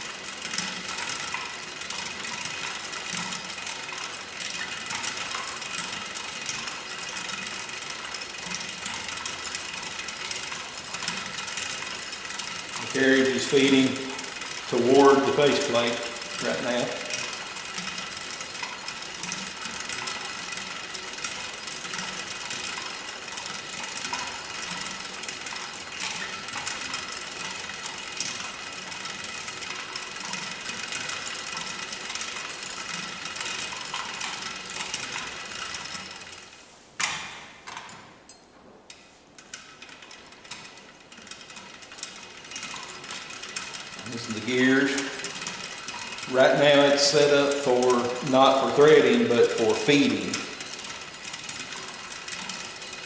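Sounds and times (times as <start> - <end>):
lathe whirring with gear clatter: 0.0 - 53.0.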